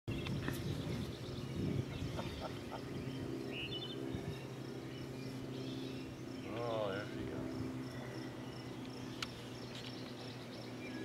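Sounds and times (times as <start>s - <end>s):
bird chirp: 0.1s - 11.0s
steady low hum: 0.1s - 11.0s.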